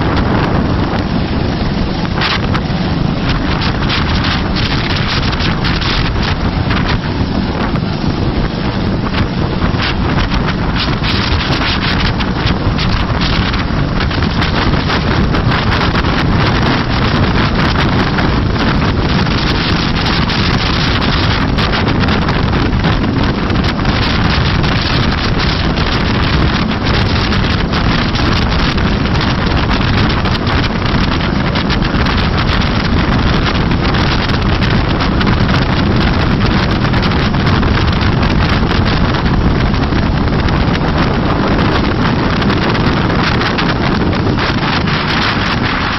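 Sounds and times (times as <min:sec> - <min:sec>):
helicopter running: 0:00.0 - 0:45.9
wind buffeting microphone: 0:00.0 - 0:45.9.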